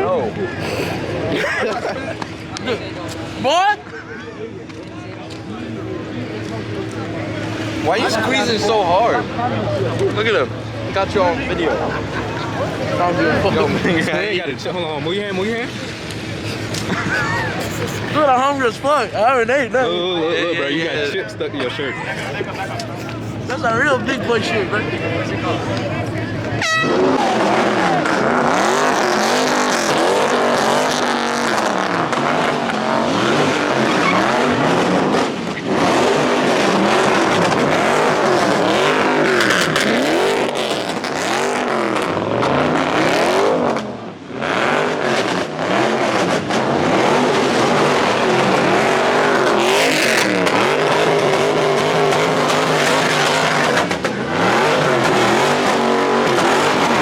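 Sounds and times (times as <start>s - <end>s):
tyres skidding: 0.0s - 57.0s
car engine revving: 4.7s - 19.6s, 20.8s - 57.0s.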